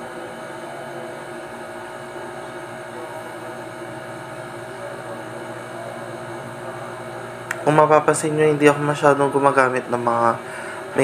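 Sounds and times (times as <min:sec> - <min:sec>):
room hum with held tones: 0:00.0 - 0:11.0.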